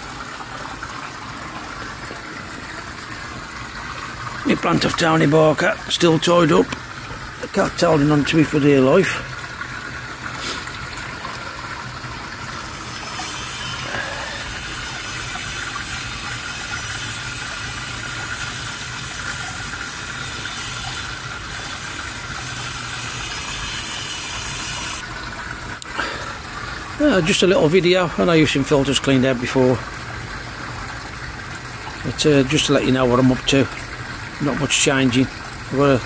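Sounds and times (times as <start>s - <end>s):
water rushing through filter: 0.0s - 36.0s.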